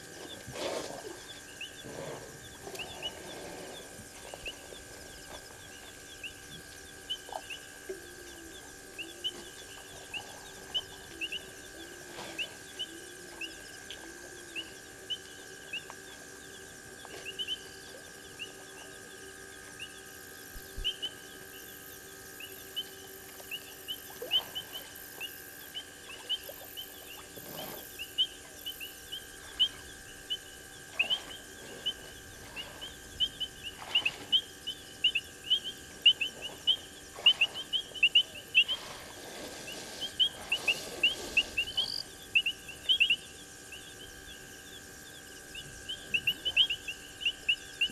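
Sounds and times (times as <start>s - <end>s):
frogs and insects chirping: 0.0s - 47.9s
steady high drone: 1.0s - 47.9s.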